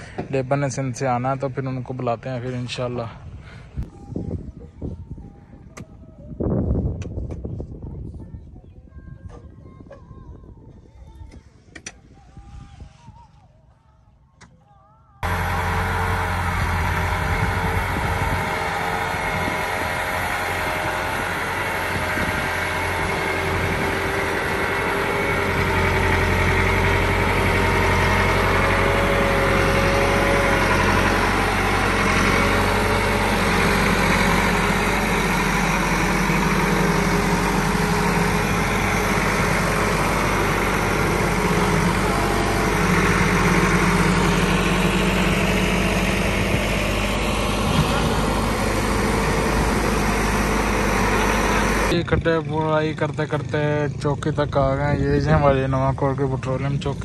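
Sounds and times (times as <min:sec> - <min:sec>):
tractor diesel engine running: 0:00.0 - 0:05.4, 0:15.2 - 0:57.0.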